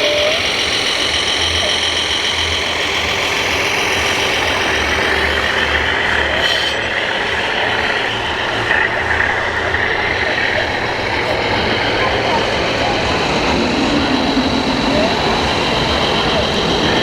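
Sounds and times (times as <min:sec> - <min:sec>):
hall background noise: 0:00.0 - 0:17.0
high whine of electric motors: 0:00.0 - 0:17.0
low pulsing engine rumble: 0:00.0 - 0:17.0.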